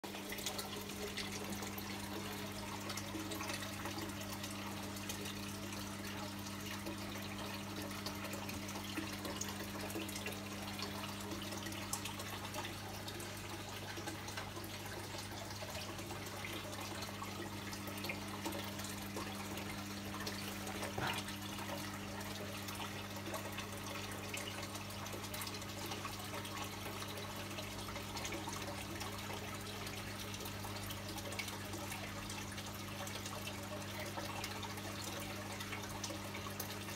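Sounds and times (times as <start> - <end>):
aquarium water bubbling: 0.0 - 36.9.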